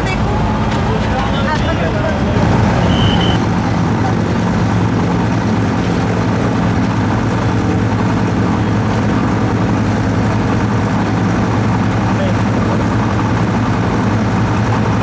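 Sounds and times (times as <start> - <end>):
boat diesel engine droning: 0.0 - 15.0.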